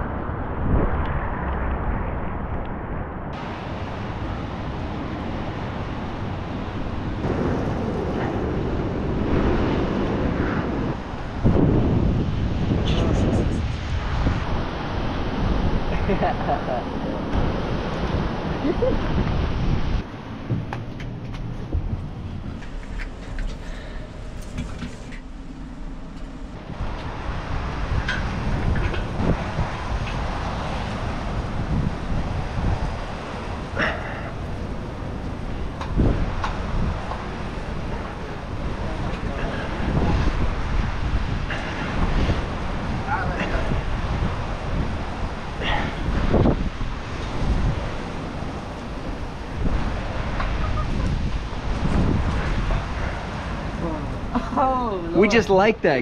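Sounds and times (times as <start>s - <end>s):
wind rushing across microphone: 0.0s - 56.0s.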